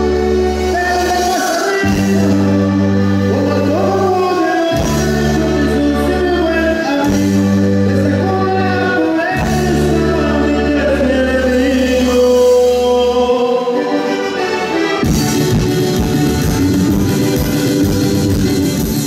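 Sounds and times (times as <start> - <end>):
dance band music with singing: 0.0 - 19.0
guitar: 0.0 - 19.0.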